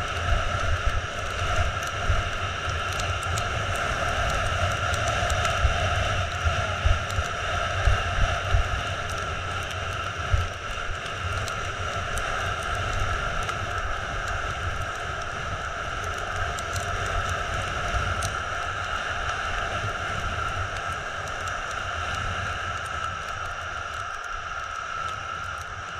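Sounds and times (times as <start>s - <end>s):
wind rushing over microphone: 0.0s - 25.9s.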